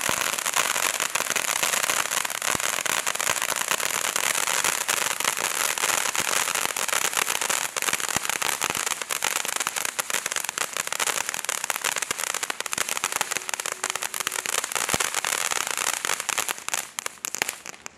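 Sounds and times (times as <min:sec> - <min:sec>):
fountain firework hissing and crackling: 0:00.0 - 0:17.9.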